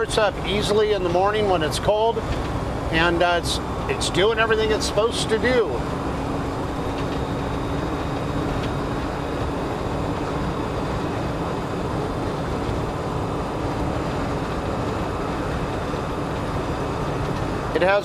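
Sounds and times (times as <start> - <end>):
car cruising with road noise: 0.0 - 18.0.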